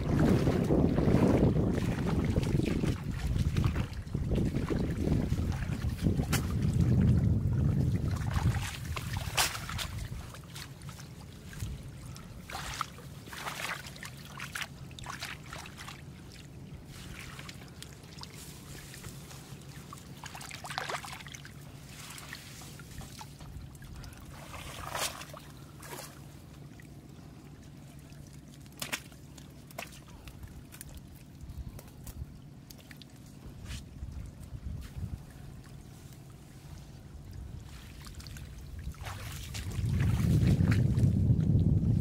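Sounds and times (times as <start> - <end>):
water splashing and trickling: 0.0 - 42.0.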